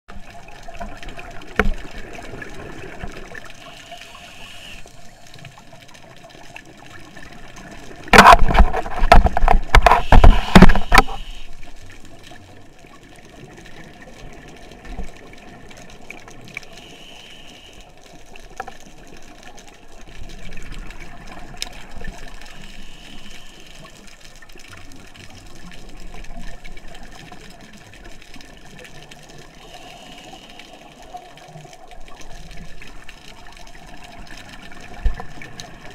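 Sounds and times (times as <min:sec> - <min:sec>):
low underwater hiss: 0:00.1 - 0:35.9.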